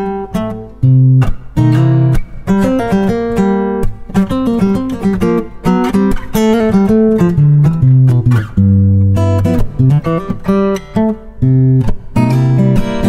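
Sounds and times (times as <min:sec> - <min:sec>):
fingerstyle acoustic guitar: 0:00.0 - 0:13.0.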